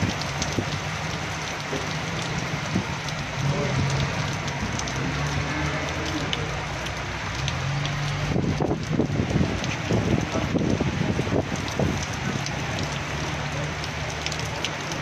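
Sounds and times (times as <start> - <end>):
heavy rain on a street: 0.0 - 15.0.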